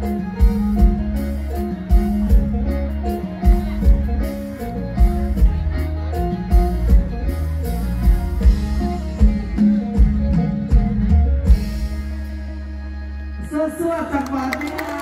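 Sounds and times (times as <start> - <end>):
drum kit beat: 0.0 - 12.2
keyboard and guitar: 0.0 - 15.0
live band music: 0.0 - 15.0.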